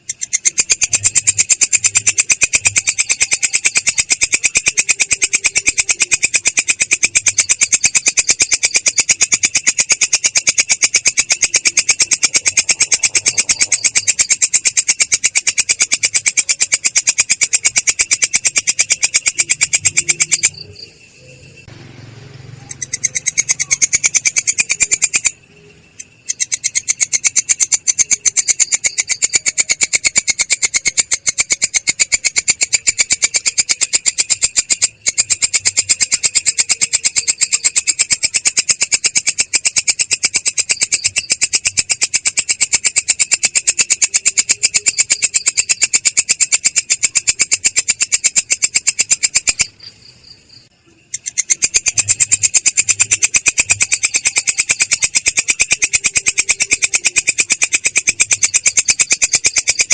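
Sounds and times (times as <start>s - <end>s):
insect stridulating in pulsed trill: 0.0s - 59.9s.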